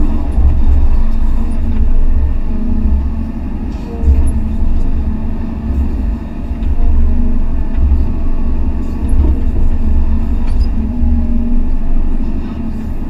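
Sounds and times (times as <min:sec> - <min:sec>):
excavator engine and hydraulics rumble: 0:00.0 - 0:13.0.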